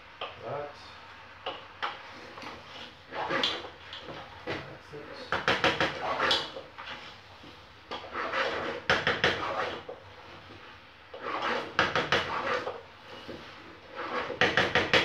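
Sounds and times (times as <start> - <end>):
wooden spoon scraping metal pot: 2.2 - 15.0.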